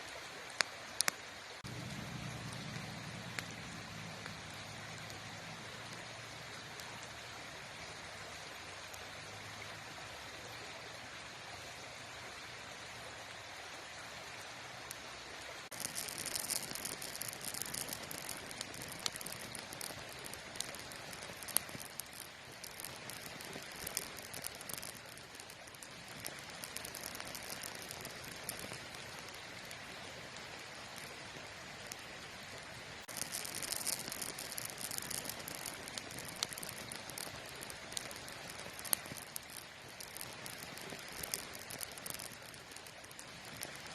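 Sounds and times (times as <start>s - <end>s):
campfire crackling and popping: 0.0s - 9.9s, 15.6s - 43.9s
campfire hissing: 0.0s - 43.9s.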